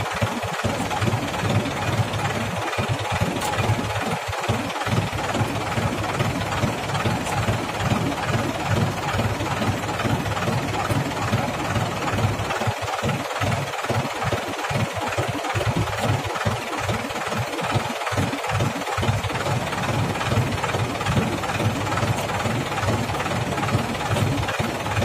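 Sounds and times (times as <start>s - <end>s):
tractor diesel engine idling: 0.0s - 25.0s.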